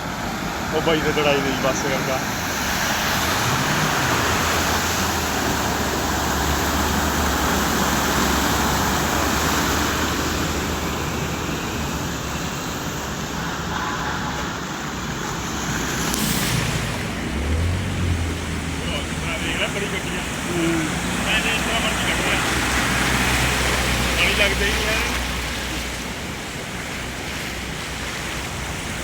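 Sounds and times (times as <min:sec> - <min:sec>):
floodwater rushing: 0:00.0 - 0:29.0
low engine hum: 0:00.0 - 0:29.0.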